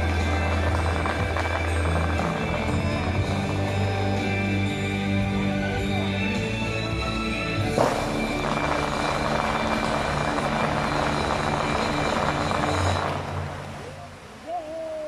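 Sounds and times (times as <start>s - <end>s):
music: 0.0s - 13.8s
fountain water jets rushing: 0.0s - 15.0s.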